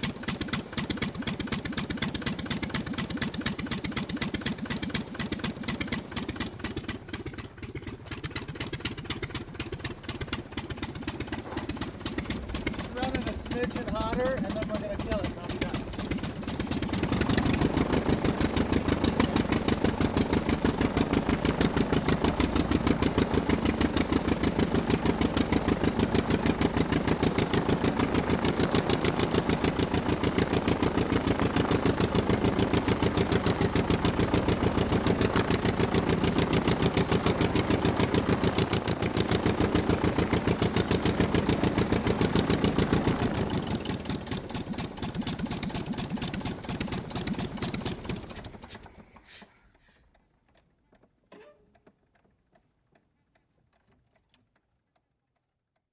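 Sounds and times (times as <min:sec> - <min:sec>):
aircraft piston engine running: 0:00.0 - 0:50.0.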